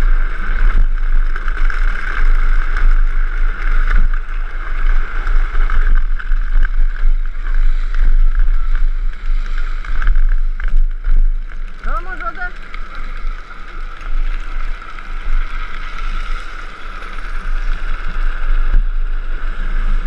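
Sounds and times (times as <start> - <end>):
plastic wheels rolling on asphalt: 0.0 - 20.0
wind rushing over microphone: 0.0 - 20.0.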